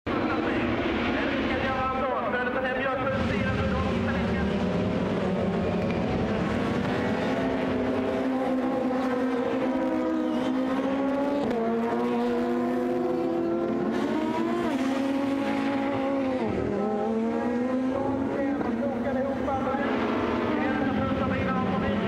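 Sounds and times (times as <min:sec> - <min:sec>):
car engines revving high: 0:00.1 - 0:22.0.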